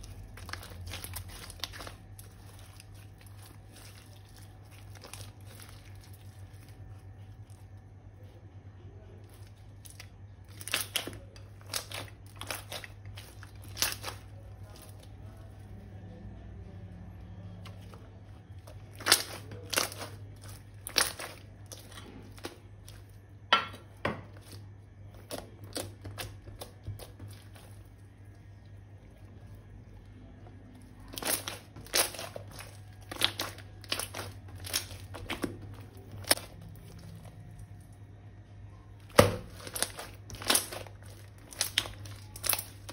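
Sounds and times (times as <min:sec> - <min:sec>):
materials crinkling and crackling: 0:00.0 - 0:23.5, 0:24.3 - 0:42.9
steady low hum: 0:00.0 - 0:42.9.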